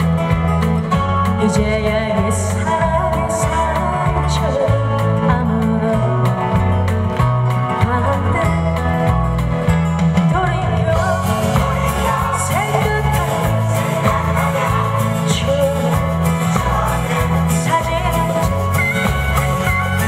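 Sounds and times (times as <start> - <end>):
acoustic guitar: 0.0 - 20.0
steady bass line: 0.0 - 20.0
woman singing a ballad: 1.2 - 6.9, 7.5 - 9.2, 10.3 - 20.0.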